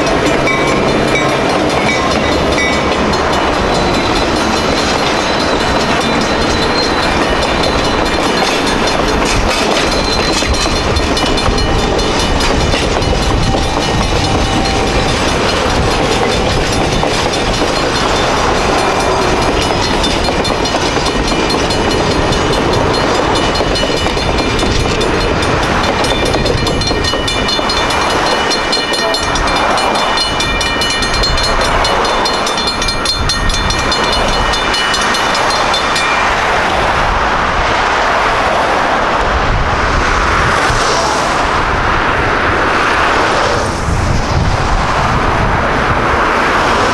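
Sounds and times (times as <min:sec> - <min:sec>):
crossing bell ringing: 0:00.0 - 0:39.6
train wheels rolling on rails: 0:00.0 - 0:46.9.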